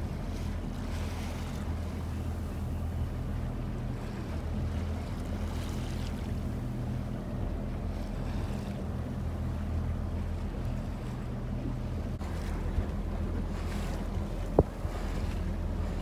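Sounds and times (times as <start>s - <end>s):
boat engines droning: 0.0s - 16.0s
wind and water wash: 0.0s - 16.0s.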